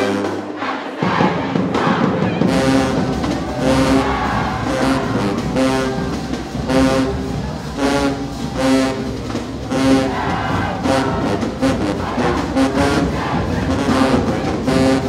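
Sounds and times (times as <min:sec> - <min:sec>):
marching band brass chords: 0:00.0 - 0:15.0.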